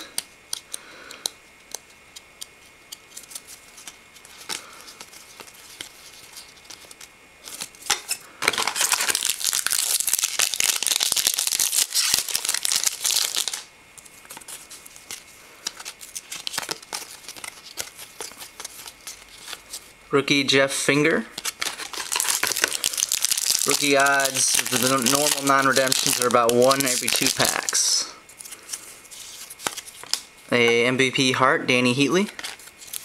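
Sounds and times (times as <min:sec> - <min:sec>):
cards clicking and rustling: 0:00.0 - 0:19.9, 0:21.3 - 0:30.8, 0:32.0 - 0:33.0
card pack wrapper tearing and crinkling: 0:03.0 - 0:19.8, 0:21.3 - 0:30.3, 0:32.1 - 0:33.0.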